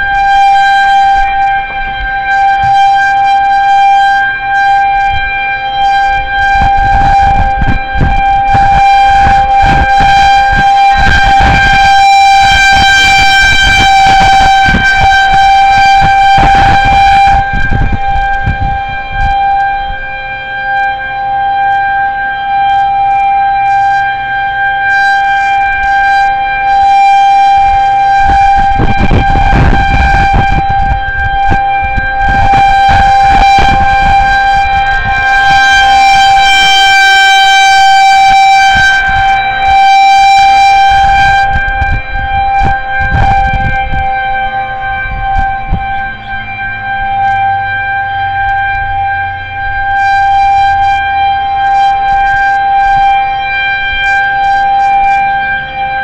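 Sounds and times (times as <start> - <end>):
wind rumbling on microphone: 0.0 - 23.7, 25.0 - 56.0
warning siren steady tone: 0.0 - 56.0.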